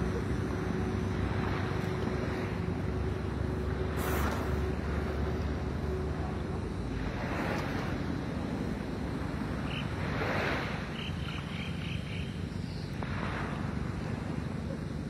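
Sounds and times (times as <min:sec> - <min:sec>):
sea water lapping: 0:00.0 - 0:15.0
wind rumble on microphone: 0:00.0 - 0:15.0.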